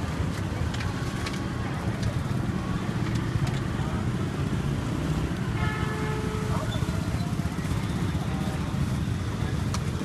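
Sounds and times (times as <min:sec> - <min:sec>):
low rumble of vehicle engines: 0:00.0 - 0:10.0.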